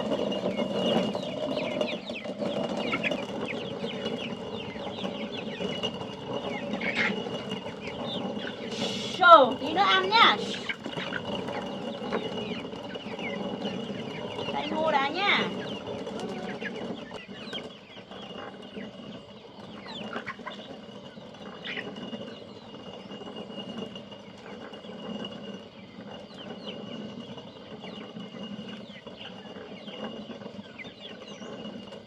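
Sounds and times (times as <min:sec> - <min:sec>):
stone mill grinding: 0:00.0 - 0:32.0.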